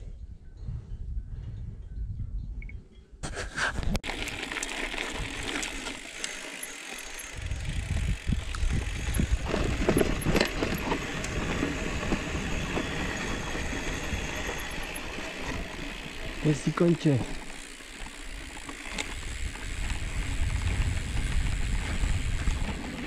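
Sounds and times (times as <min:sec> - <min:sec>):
bike tyres rushing over grass: 0:04.0 - 0:23.0.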